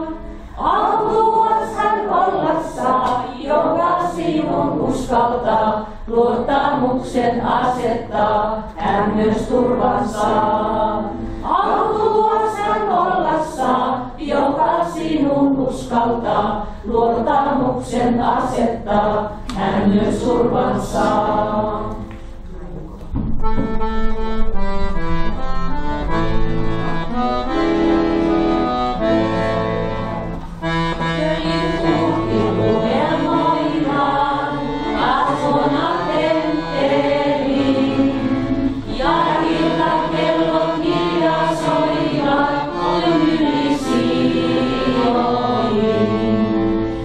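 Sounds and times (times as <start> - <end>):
accordion playing hymn tune: 0.0 - 22.0, 23.4 - 47.0.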